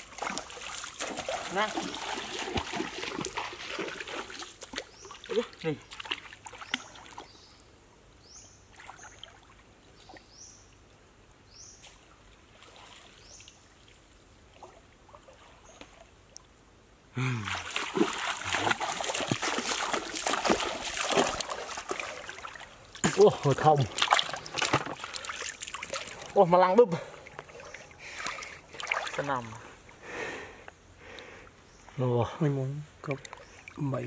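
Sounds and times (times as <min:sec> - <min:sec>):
water splashing and trickling: 0:00.0 - 0:07.7, 0:08.7 - 0:16.6, 0:17.2 - 0:30.0, 0:32.0 - 0:34.0.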